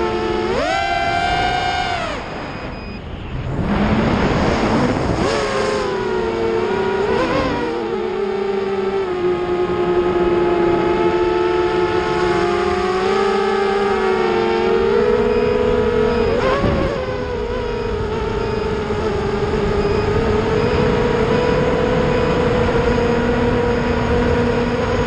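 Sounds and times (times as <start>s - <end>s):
quadcopter propellers whining: 0.0s - 25.0s.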